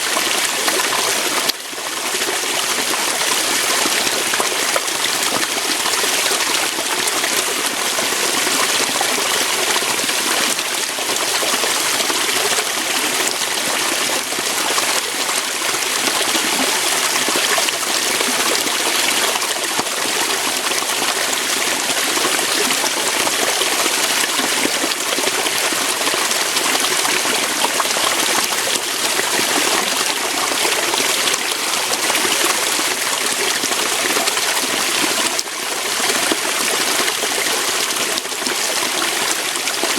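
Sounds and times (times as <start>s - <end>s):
water running over rocks: 0.0s - 39.9s.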